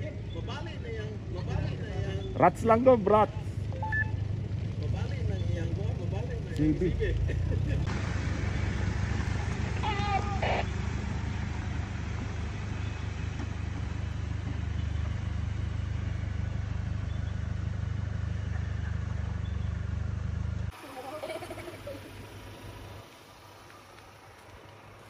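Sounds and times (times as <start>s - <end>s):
engine running with low rumble: 0.0s - 25.0s.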